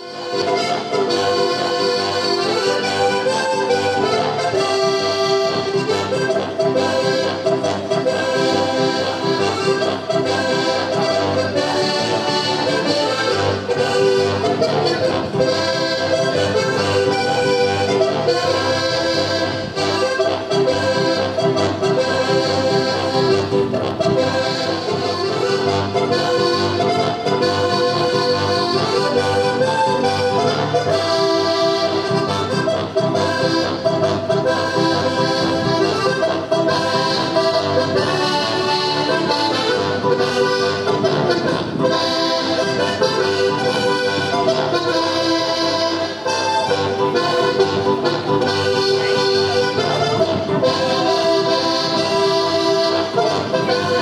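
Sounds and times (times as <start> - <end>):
accordion folk music: 0.0 - 54.0.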